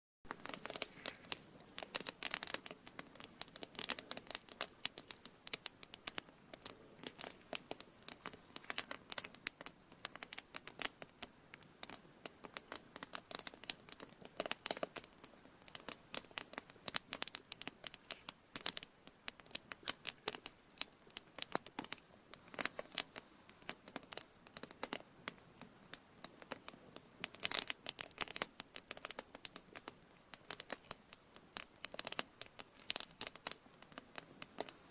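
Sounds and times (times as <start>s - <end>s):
faint low hiss: 0.2s - 34.9s
wood fire crackling: 0.2s - 34.9s.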